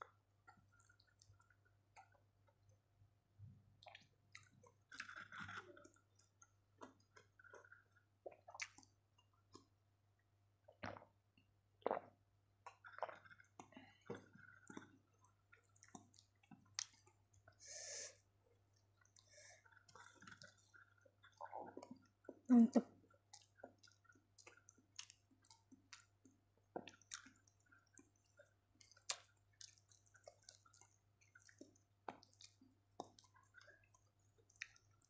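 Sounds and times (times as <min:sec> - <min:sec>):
person chewing food: 0:00.1 - 0:02.8, 0:03.8 - 0:09.8, 0:10.6 - 0:11.2, 0:11.8 - 0:35.0.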